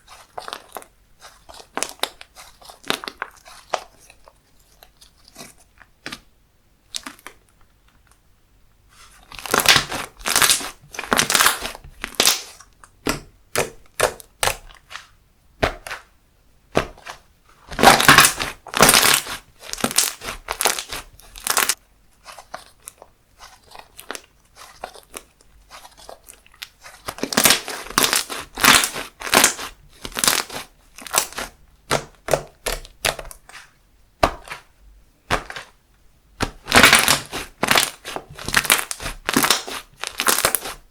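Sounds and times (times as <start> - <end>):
slime squishing and crackling: 0.0 - 6.2, 9.2 - 15.1, 16.8 - 35.8, 36.4 - 40.9.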